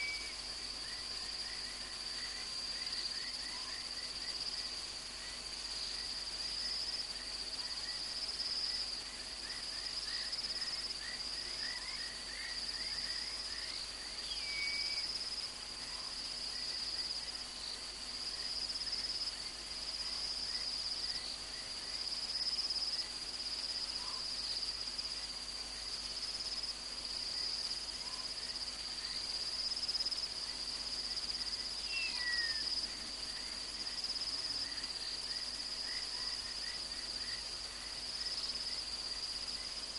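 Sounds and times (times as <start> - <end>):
faint short insect chirps: 0.0 - 8.8, 9.4 - 25.2, 26.1 - 39.9
insect high-pitched trill: 0.0 - 39.9.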